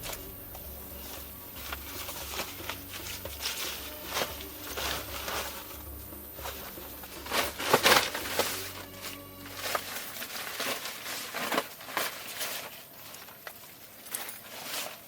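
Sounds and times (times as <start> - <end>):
hand work scraping: 0.0 - 15.0.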